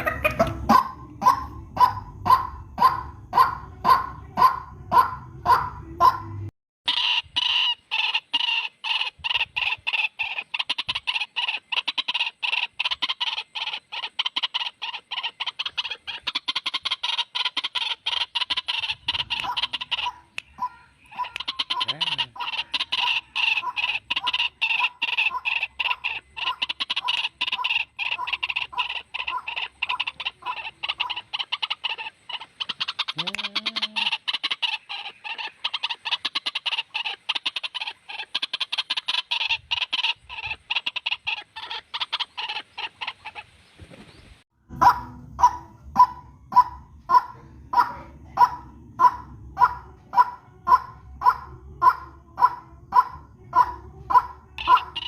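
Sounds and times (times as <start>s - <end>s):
waterhen calls: 0.0s - 55.0s.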